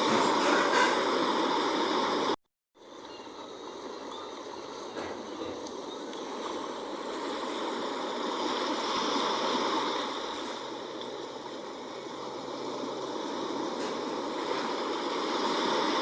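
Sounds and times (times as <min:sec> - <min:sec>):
sea waves rushing: 0:00.0 - 0:16.0.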